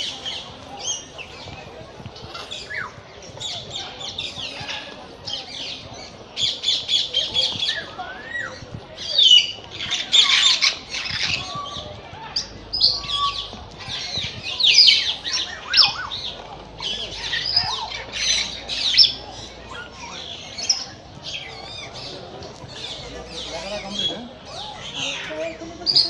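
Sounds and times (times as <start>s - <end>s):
birds squawking and chirping: 0.0s - 26.0s.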